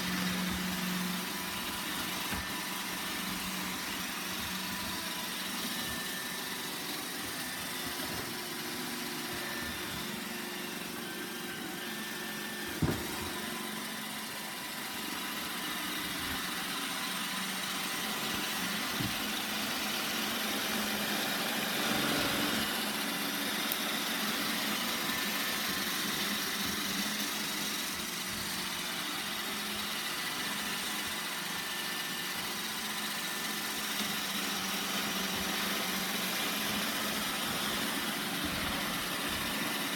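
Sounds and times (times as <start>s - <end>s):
robot vacuum motor whirring: 0.0s - 39.9s.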